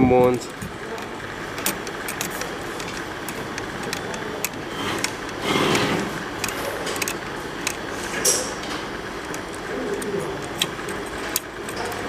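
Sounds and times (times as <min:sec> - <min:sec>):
printer fans humming: 0:00.0 - 0:12.0.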